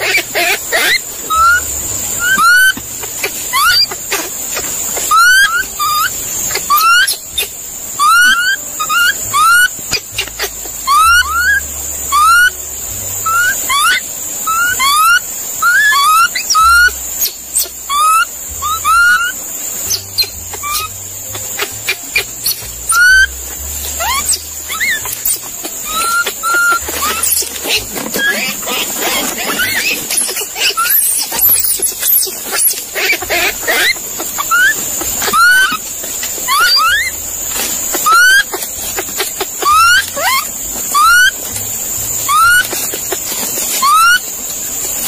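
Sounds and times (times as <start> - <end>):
monkey squeaky calls: 0.0 - 12.6, 13.2 - 45.0
steady high hiss: 0.0 - 45.0.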